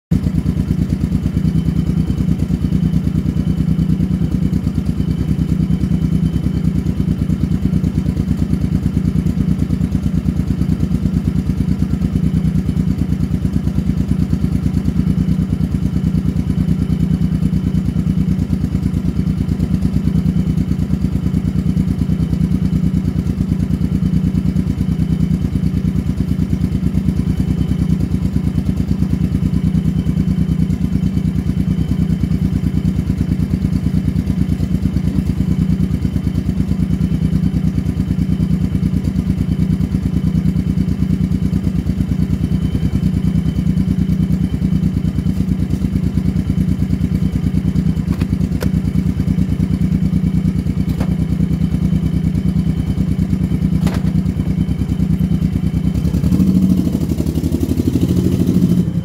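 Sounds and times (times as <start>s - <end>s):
motorcycle engine running steadily: 0.0s - 59.0s.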